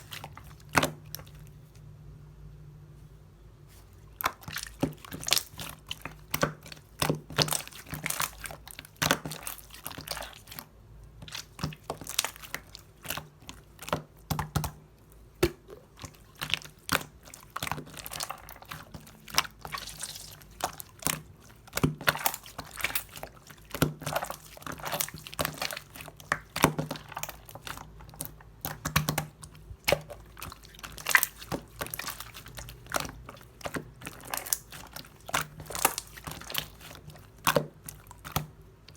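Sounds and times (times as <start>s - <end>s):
slime squished by hand: 0.0s - 1.8s, 3.7s - 38.9s.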